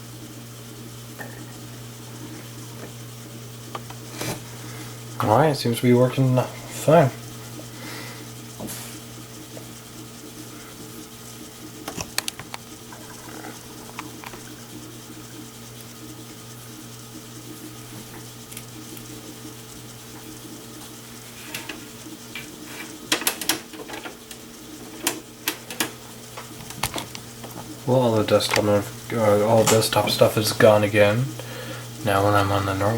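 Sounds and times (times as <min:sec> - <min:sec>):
computer fans humming: 0:00.0 - 0:32.9.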